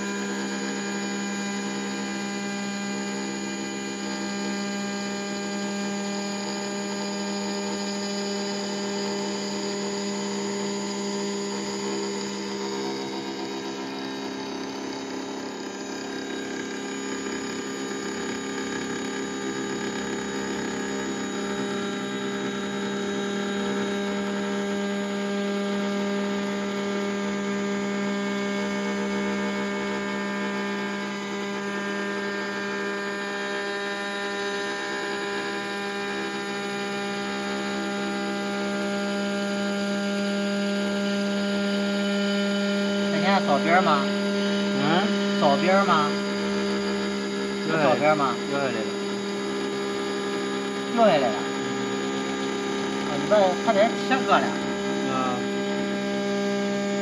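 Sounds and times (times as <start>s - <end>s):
engraving machine spindle humming: 0.0s - 57.0s.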